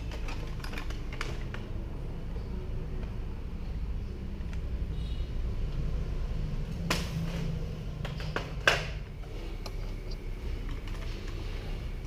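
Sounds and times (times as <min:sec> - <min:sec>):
steady low hum: 0:01.7 - 0:12.0.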